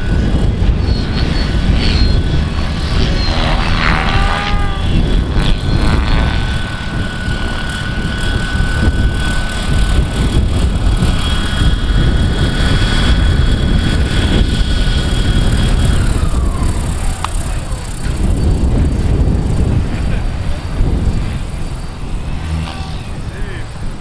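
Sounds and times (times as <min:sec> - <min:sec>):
model helicopter high whine: 0:00.0 - 0:24.0
wind rumble on microphone: 0:00.0 - 0:24.0.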